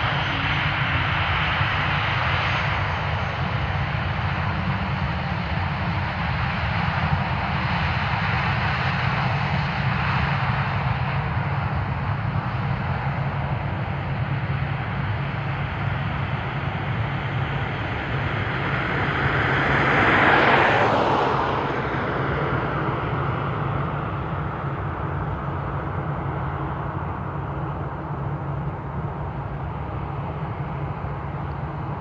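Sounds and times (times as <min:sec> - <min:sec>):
jet airliner passing: 0:00.0 - 0:32.0
steady low rumble: 0:00.0 - 0:32.0.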